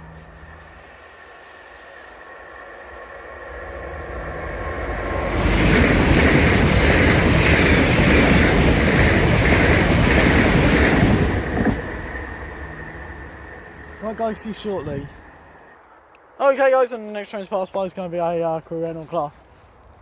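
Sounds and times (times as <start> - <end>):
electric train passing: 0.0 - 16.6.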